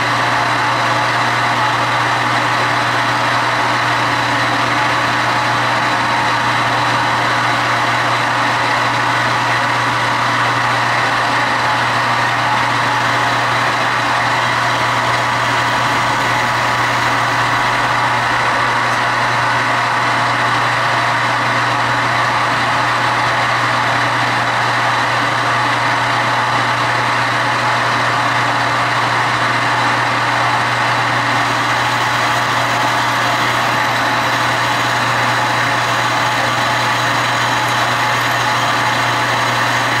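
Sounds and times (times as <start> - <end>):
lathe cutting steel: 0.0 - 40.0
metal lathe motor humming: 0.0 - 40.0.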